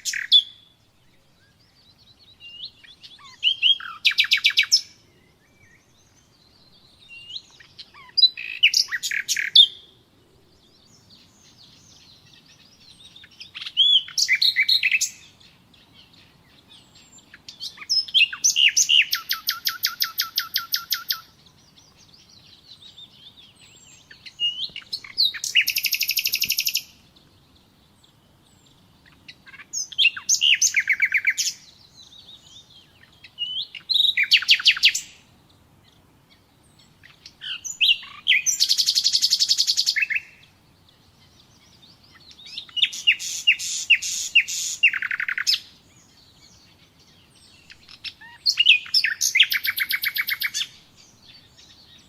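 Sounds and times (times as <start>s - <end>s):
nightingale singing: 0.0s - 52.0s.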